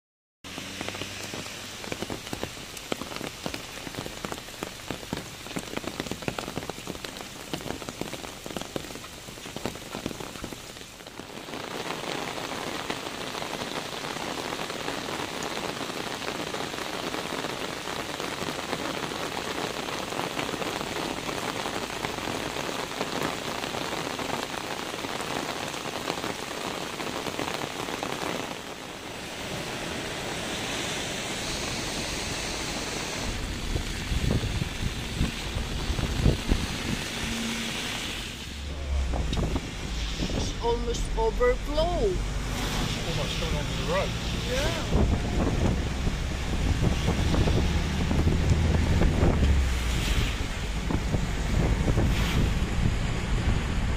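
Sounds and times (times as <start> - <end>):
heavy rain falling: 0.4 - 53.9.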